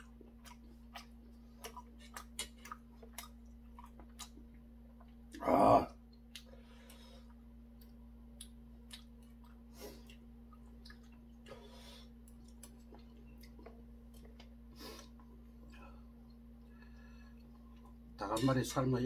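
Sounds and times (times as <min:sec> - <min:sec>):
chewing food: 0:00.0 - 0:05.4, 0:06.0 - 0:18.1
steady low hum: 0:00.0 - 0:19.0.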